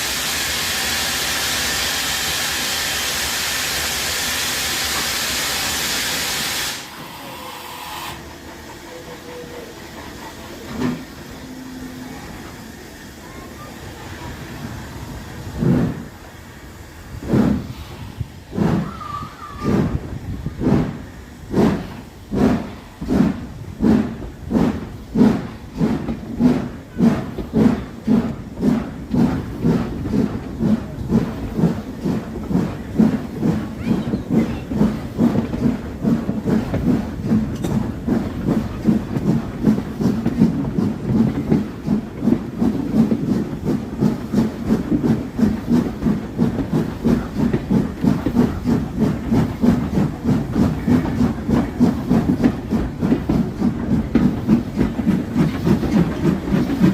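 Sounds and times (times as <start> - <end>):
steam hiss: 0.0 - 56.9
steam locomotive exhaust beats: 0.0 - 56.9
wheels on rail: 6.7 - 56.9.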